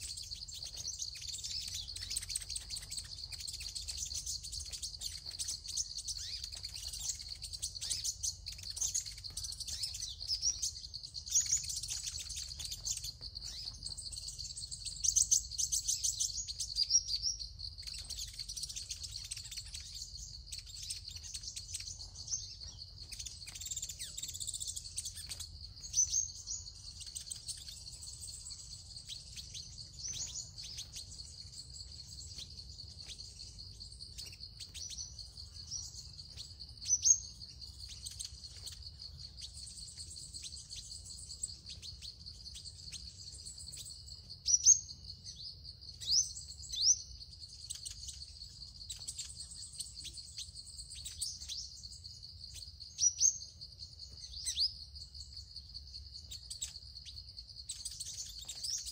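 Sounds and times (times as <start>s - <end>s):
birds twittering and trilling: 0.0s - 58.9s.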